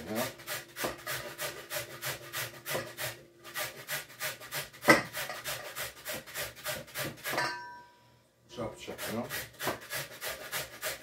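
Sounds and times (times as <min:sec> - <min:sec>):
carrot rasping on metal grater: 0:00.0 - 0:07.4, 0:08.9 - 0:11.0.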